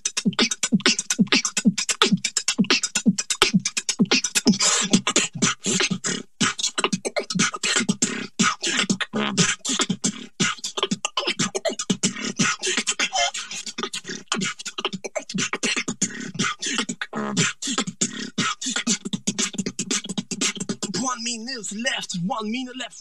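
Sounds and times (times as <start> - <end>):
beatboxed percussion loops: 0.0 - 23.0
vocal bass lines: 0.0 - 23.0.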